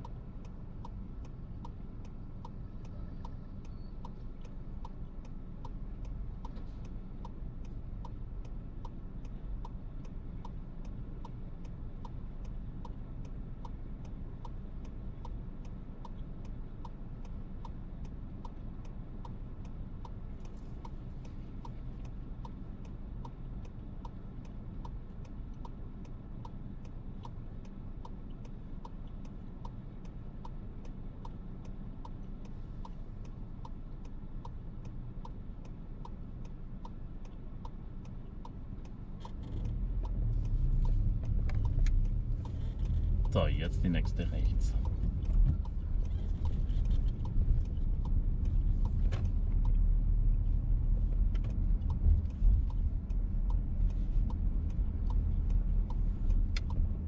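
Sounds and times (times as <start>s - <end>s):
road and engine rumble: 0.0s - 57.0s
steady ticking in car cabin: 0.0s - 57.0s.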